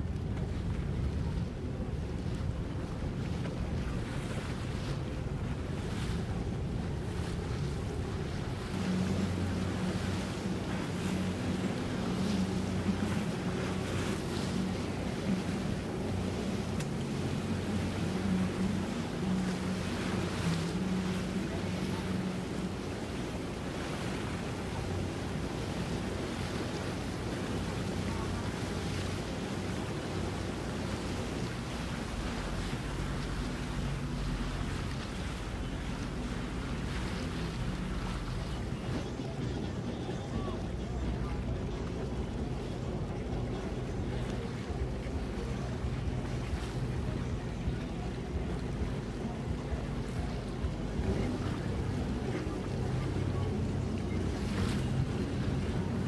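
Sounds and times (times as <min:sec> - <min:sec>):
boat engine hum: 0:00.0 - 0:56.0
boat wake washing: 0:00.0 - 0:56.0
low steady rumble: 0:00.0 - 0:56.0
water splashing: 0:00.0 - 0:56.0
wind on microphone: 0:00.0 - 0:56.0.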